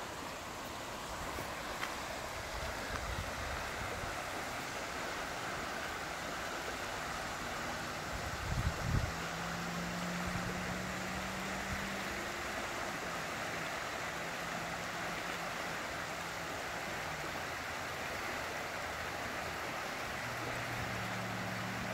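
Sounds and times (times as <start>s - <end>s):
river rushing over riffles: 0.0s - 21.9s.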